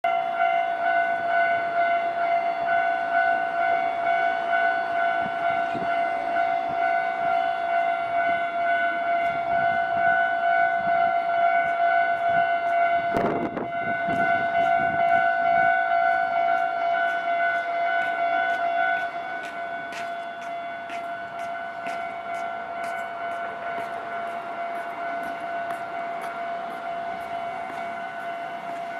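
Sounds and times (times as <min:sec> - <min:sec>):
level crossing warning bell: 0:00.0 - 0:28.9.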